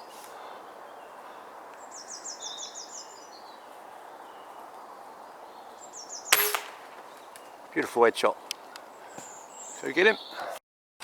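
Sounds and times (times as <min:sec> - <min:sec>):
steady outdoor background hiss: 0:00.0 - 0:10.6.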